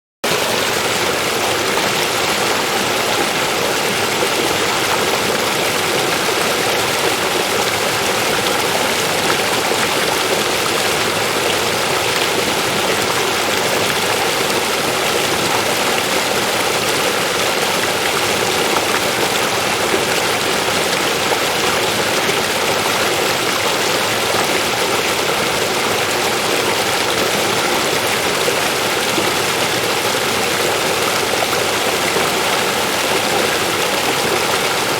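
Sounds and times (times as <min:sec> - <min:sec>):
river water rushing over rocks: 0:00.4 - 0:34.9.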